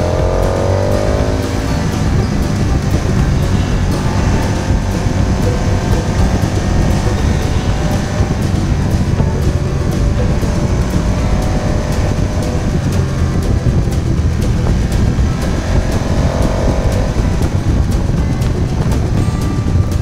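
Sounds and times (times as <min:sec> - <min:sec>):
motorcycle engine and wind: 0:00.0 - 0:20.0.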